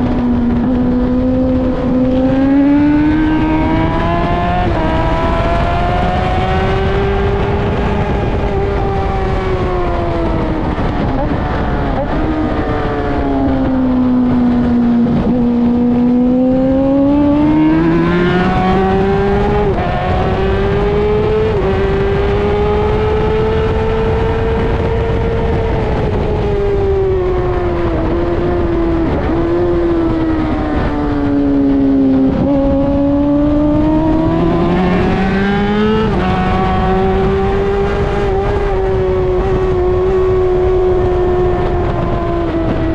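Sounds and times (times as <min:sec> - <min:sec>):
motorcycle engine revving: 0:00.0 - 0:42.9
wind and road noise: 0:00.0 - 0:42.9.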